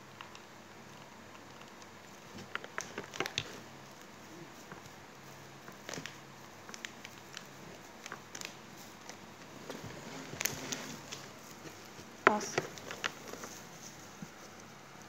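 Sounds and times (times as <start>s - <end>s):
foil tinsel crinkling: 2.7s - 15.0s.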